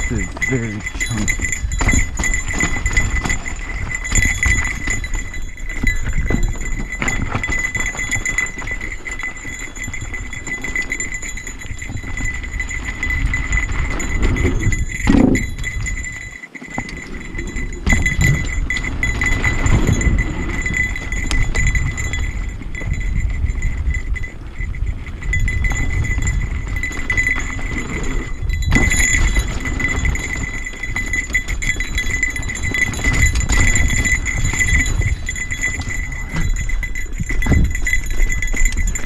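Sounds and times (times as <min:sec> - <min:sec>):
bike rattling over rough trail: 0:00.0 - 0:39.0.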